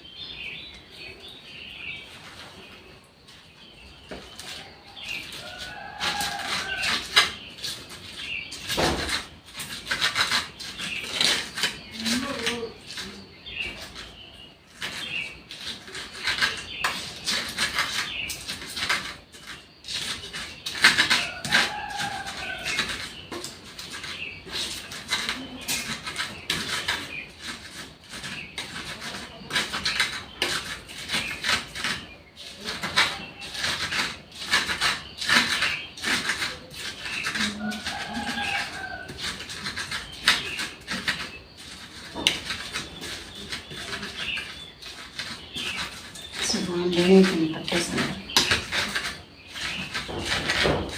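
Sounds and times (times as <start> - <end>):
stone pestle grinding in mortar: 3.6 - 50.9.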